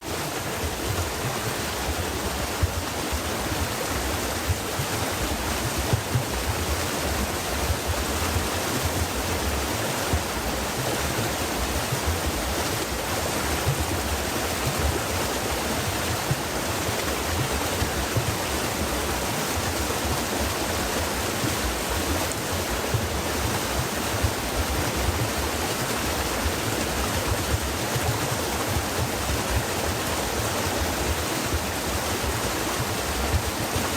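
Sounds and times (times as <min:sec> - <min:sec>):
stream flowing over stones: 0:00.0 - 0:33.9.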